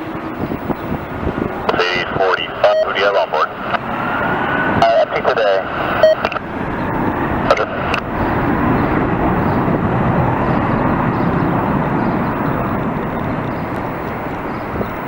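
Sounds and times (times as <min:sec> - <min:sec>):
air traffic control radio call: 0:00.0 - 0:15.0
jet engines roaring: 0:00.0 - 0:15.0.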